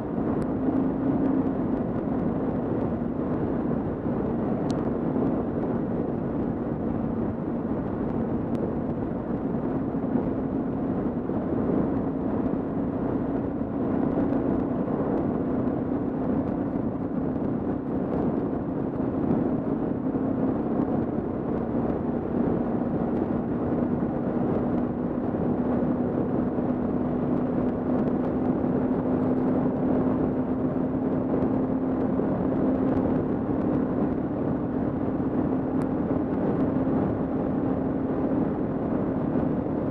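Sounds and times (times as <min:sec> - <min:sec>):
road noise: 0:00.0 - 0:39.9
wind noise: 0:00.0 - 0:39.9.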